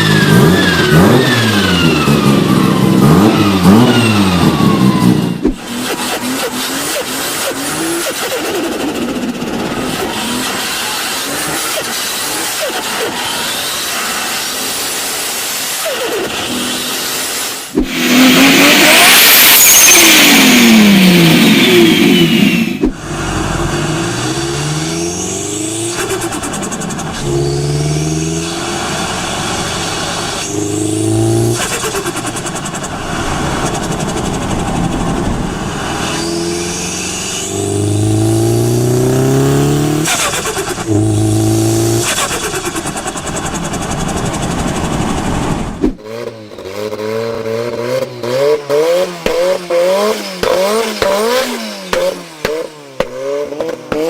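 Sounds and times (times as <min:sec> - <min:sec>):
turbocharged car engines revving: 0:00.0 - 0:54.0.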